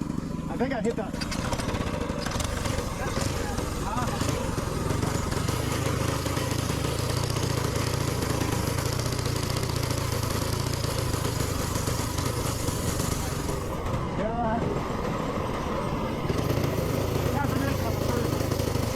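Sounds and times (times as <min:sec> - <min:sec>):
minibike engine running: 0:00.0 - 0:18.9.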